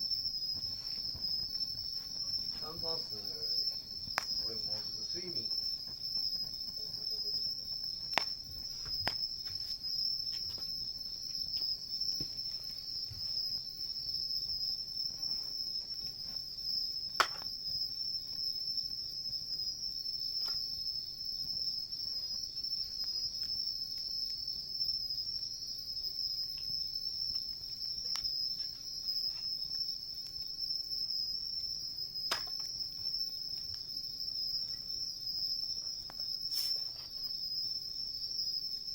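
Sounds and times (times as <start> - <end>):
campfire wood popping: 0.0 - 38.7
crickets trilling: 0.0 - 38.9.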